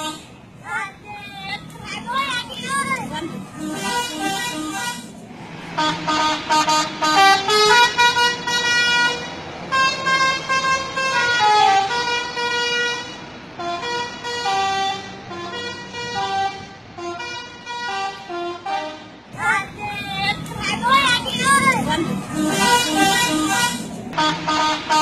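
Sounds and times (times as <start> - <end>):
bus horn playing a tune: 0.0 - 0.4, 2.7 - 19.3, 21.3 - 25.0.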